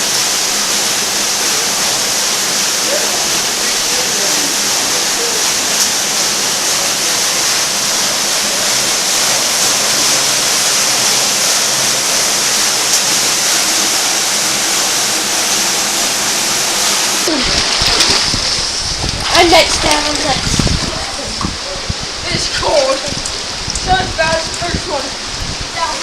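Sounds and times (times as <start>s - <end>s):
water roaring down a cascade: 0.0s - 26.0s.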